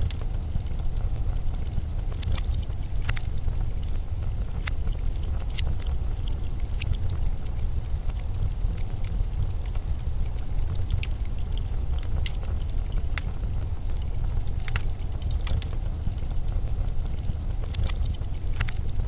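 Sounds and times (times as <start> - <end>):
sharp crackles and ticks: 0.0 - 19.0.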